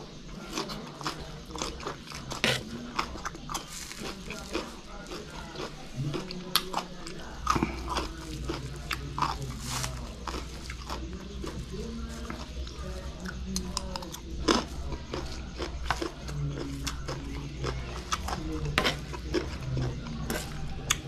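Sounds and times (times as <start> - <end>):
chewing crisp raw vegetables: 0.0 - 21.0.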